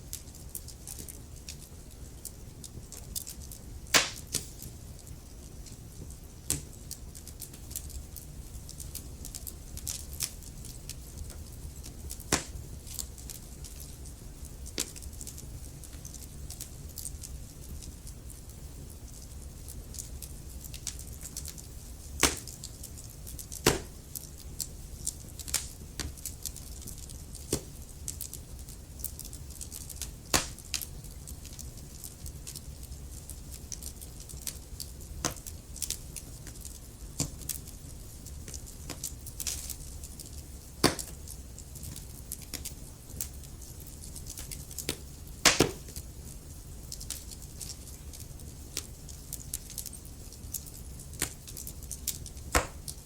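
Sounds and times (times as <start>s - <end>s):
low rumble of flames: 0.0s - 53.0s
wood fire crackling: 0.0s - 53.0s
burning logs popping: 0.1s - 53.0s.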